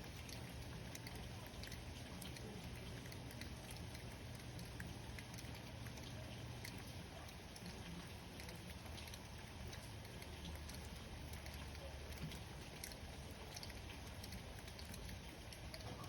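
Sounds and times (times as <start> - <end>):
light rain falling: 0.0 - 16.0
raindrops ticking on a surface: 0.0 - 16.0.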